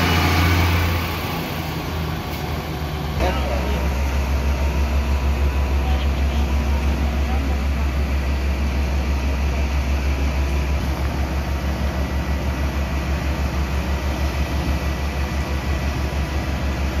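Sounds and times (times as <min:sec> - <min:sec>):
fire truck engine idling: 0:00.0 - 0:17.0.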